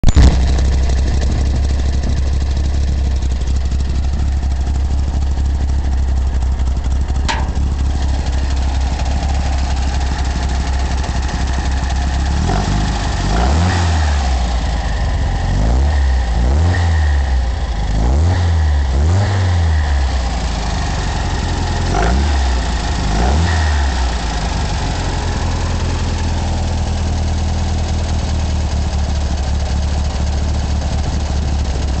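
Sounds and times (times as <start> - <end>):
car engine idling and revving: 0.1 - 32.0.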